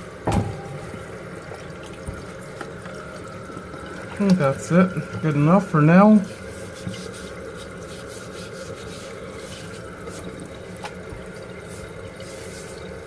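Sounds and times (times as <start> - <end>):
water running into toilet tank: 0.0 - 13.0.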